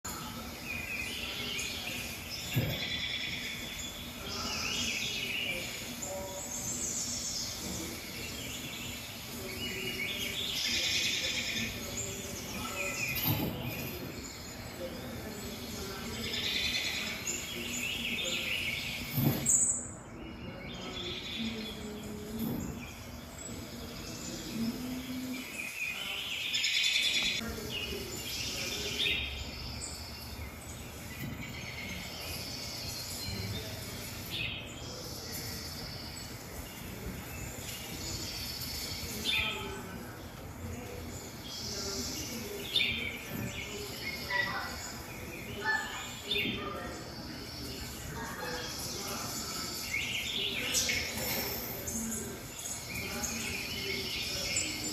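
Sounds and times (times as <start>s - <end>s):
songbirds chirping through tv speakers: 0.0s - 54.9s.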